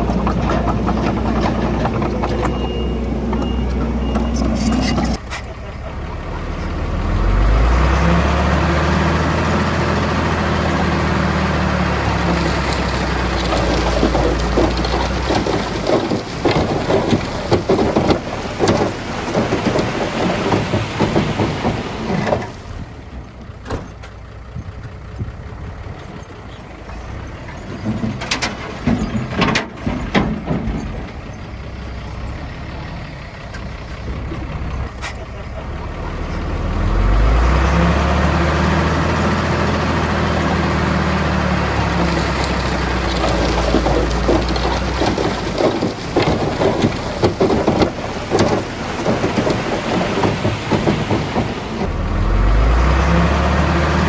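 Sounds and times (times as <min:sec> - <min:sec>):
rock and soil clattering: 0:00.0 - 0:05.5, 0:06.6 - 0:24.0, 0:26.3 - 0:32.2, 0:36.0 - 0:54.0
diesel machinery engine: 0:00.0 - 0:54.0.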